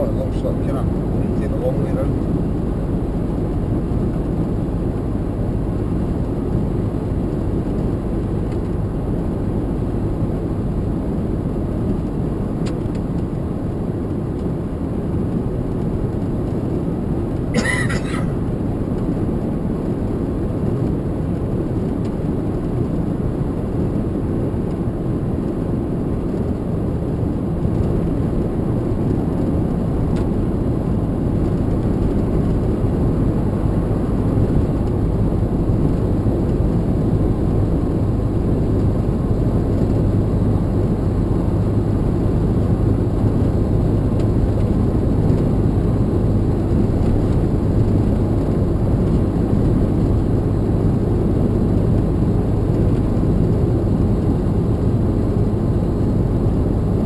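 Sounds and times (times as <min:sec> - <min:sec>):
truck engine and tyres rumbling: 0:00.0 - 0:57.0.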